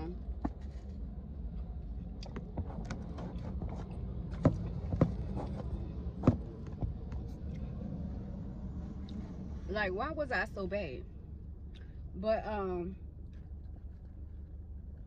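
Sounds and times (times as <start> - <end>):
low car interior hum: 0.0 - 15.0.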